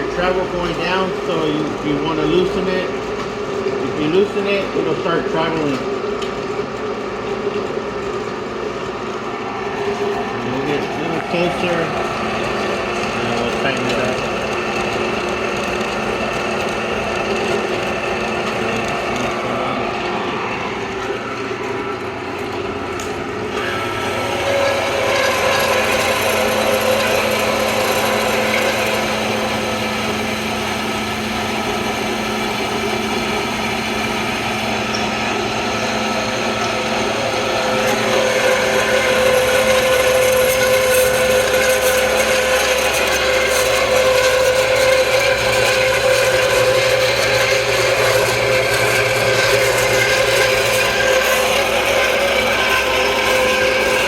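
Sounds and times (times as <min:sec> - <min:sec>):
bandsaw running: 0:00.0 - 0:06.2, 0:09.3 - 0:54.0.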